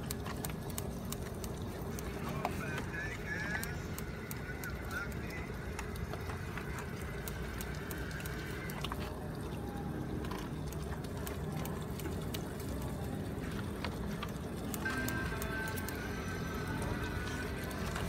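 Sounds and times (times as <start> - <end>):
utensils clicking and tapping: 0.0 - 9.1, 10.3 - 18.0
street food stall background noise: 0.0 - 18.0.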